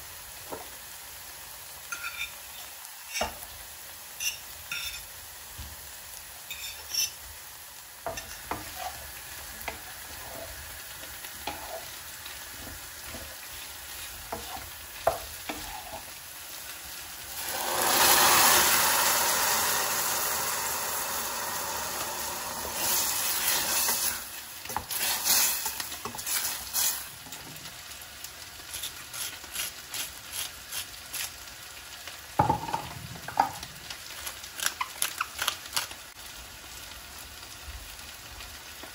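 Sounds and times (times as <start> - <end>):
food frying in a pan: 0.0 - 38.9
loud sizzle: 0.0 - 38.9.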